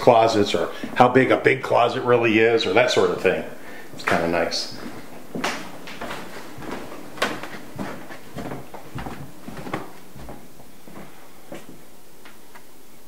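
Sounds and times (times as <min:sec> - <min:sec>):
footsteps on hard floor: 0:00.0 - 0:01.4, 0:03.0 - 0:12.4
steady low hiss: 0:00.0 - 0:13.0.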